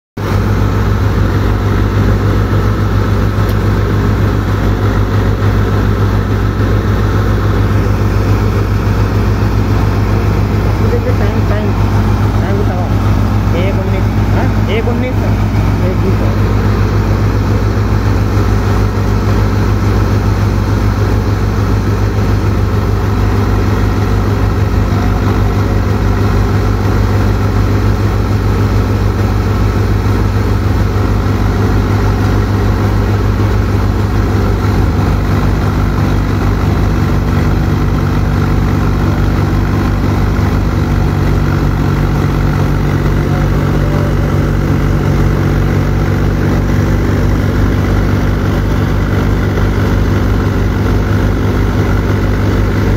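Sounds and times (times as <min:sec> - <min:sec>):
tractor diesel engine droning: 0:00.2 - 0:52.9.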